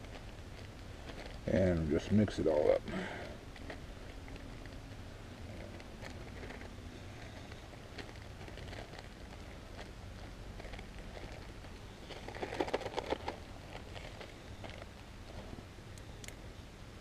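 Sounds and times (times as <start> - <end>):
plastic bag crinkling: 0.0 - 15.6.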